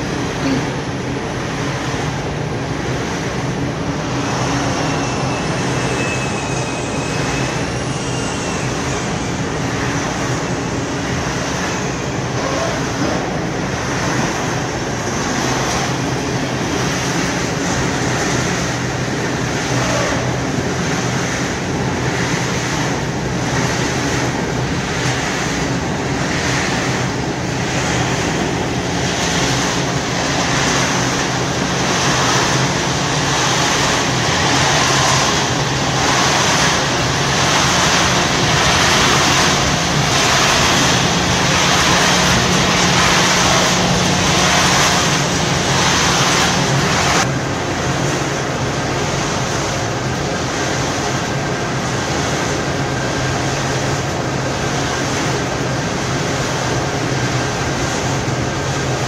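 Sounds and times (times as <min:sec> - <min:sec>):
constant rushing noise: 0:00.0 - 0:59.0
low motor hum: 0:00.0 - 0:59.0.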